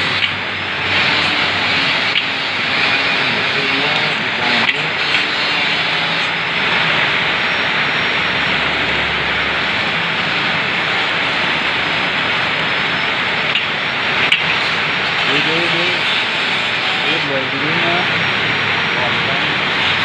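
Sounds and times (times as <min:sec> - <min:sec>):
arc welding rush: 0:00.0 - 0:20.0.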